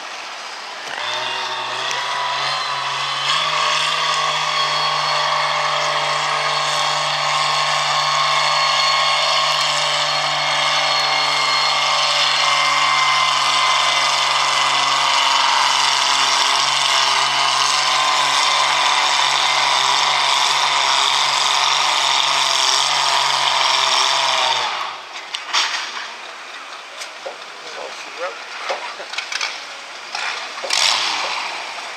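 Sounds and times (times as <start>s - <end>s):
tractor engine at full throttle: 0.8s - 25.8s, 27.2s - 31.9s.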